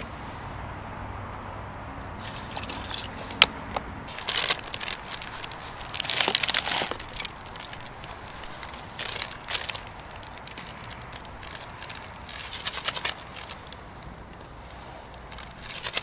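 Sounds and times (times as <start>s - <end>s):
wood fire crackling: 1.9s - 16.0s.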